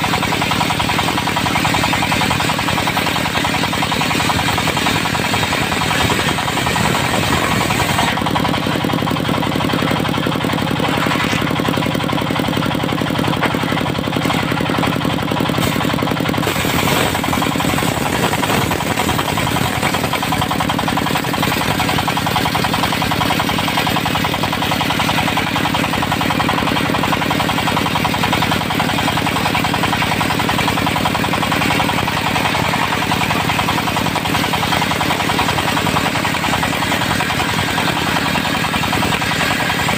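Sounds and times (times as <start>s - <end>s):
engine running with pulsing beat: 0.0s - 39.9s.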